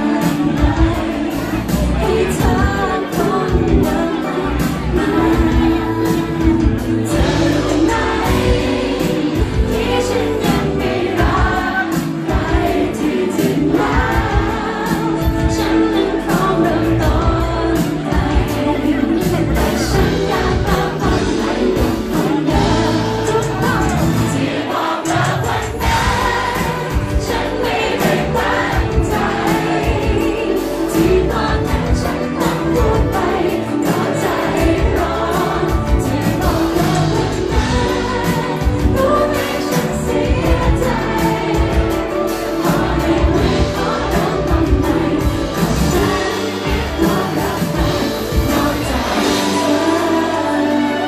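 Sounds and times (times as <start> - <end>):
woman singing pop ballad: 0.0 - 24.4, 25.1 - 51.0
drums steady beat: 0.0 - 51.0
live band accompaniment: 0.0 - 51.0.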